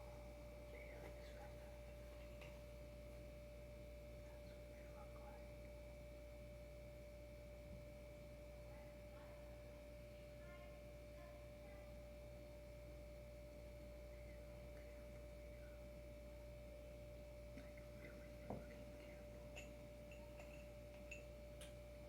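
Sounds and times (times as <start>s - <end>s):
faint steady whine: 0.0s - 22.0s.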